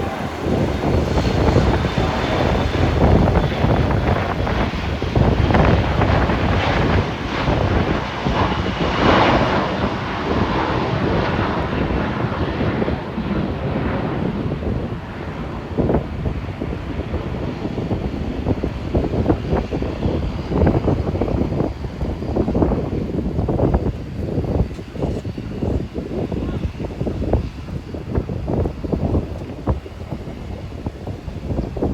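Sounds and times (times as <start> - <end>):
jet engines roaring: 0.0 - 31.9
wind buffeting microphone: 0.0 - 31.9.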